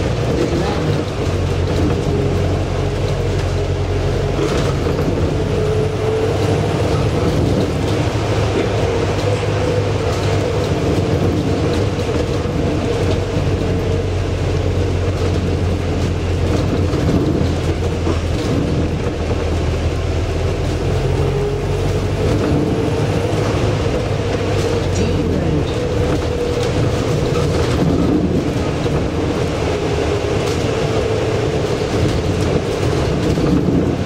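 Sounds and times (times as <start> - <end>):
bus drivetrain hum: 0.0 - 34.0
road noise: 0.0 - 34.0.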